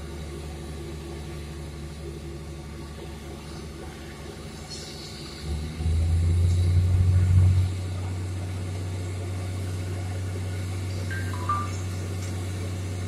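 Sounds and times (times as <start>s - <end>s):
drilling rig engine drone: 0.0s - 13.0s.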